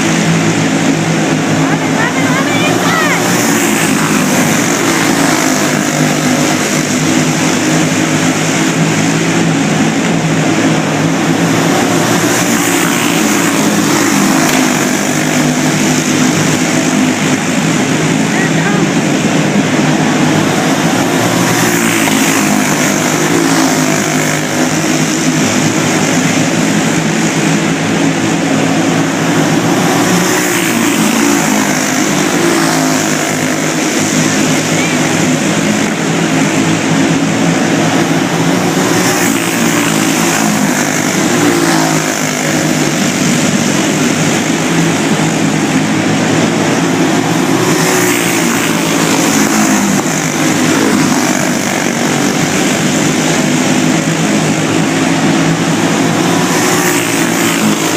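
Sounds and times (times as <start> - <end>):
go-kart engines racing: 0.0 - 57.9.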